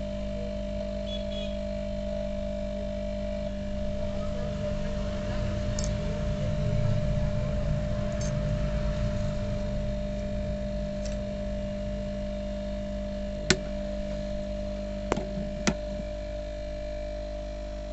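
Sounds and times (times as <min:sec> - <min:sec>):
steady hum: 0:00.0 - 0:17.9.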